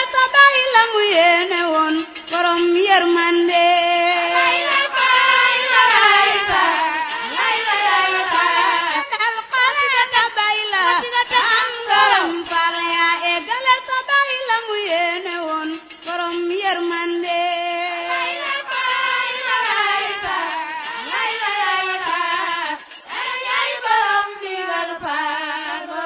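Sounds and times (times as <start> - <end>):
music: 0.0 - 26.0
person singing devotional lines: 0.0 - 26.0.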